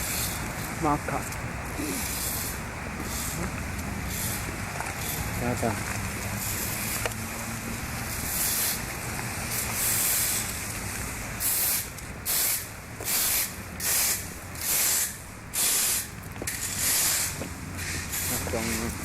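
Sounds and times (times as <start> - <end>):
loud hissing bursts: 0.0 - 19.0
steady hissing noise: 0.0 - 19.0.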